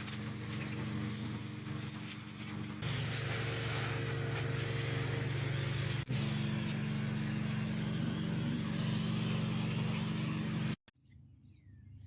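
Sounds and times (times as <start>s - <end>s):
motor running with hiss: 0.0s - 10.8s.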